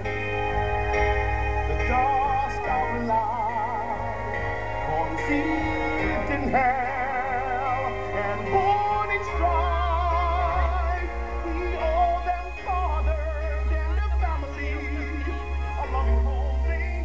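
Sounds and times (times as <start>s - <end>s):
backing music: 0.0s - 17.0s
man singing with vibrato: 1.7s - 17.0s.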